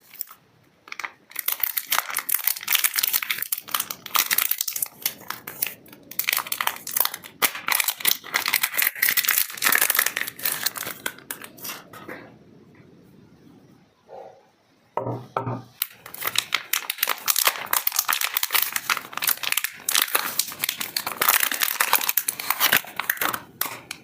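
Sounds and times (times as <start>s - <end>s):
packaging crinkling: 0.0s - 12.0s, 15.8s - 24.0s.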